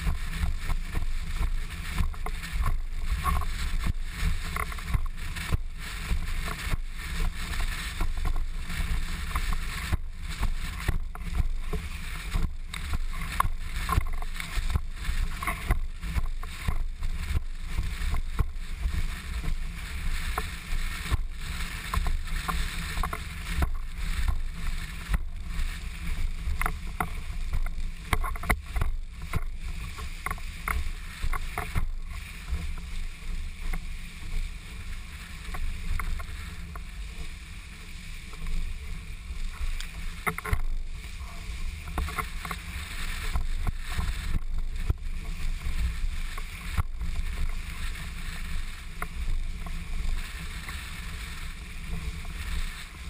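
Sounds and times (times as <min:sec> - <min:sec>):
waves slapping board: 0:00.0 - 0:53.0
wind buffeting camera: 0:00.0 - 0:53.0.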